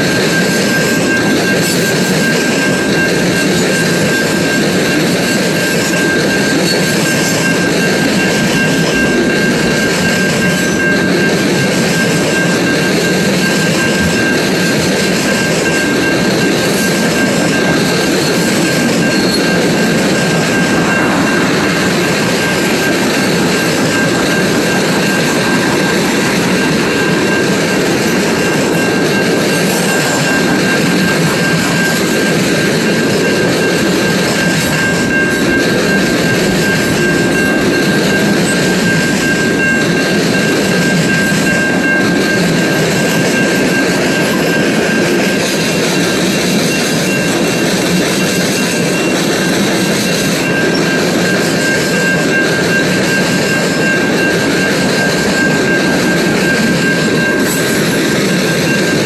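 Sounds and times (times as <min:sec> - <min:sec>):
steady high-pitched ring: 0:00.0 - 0:59.0
train wheels rumbling and rattling: 0:00.0 - 0:59.0.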